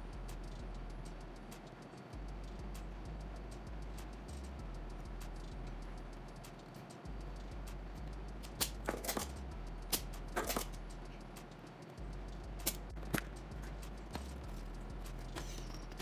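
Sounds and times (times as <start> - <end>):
low bass: 0.0 - 1.5, 2.2 - 6.5, 7.1 - 16.0.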